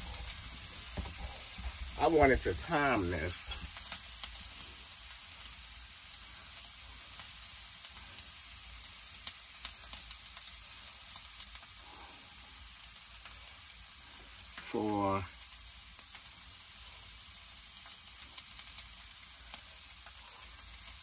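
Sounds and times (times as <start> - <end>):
steak sizzling in a frying pan: 0.0 - 21.0.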